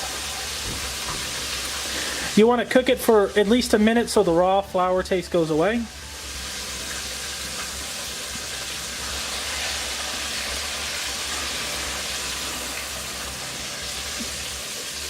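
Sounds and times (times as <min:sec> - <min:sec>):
roux sizzling in a pan: 0:00.0 - 0:04.6, 0:05.4 - 0:15.0.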